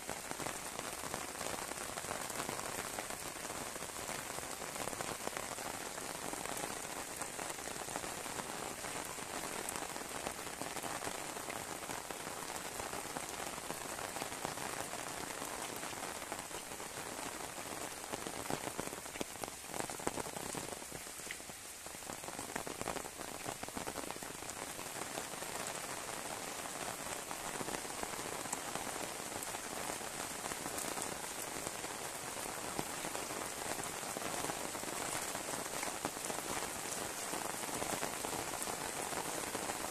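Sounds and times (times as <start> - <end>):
heavy rain on concrete and grass: 0.0 - 39.9.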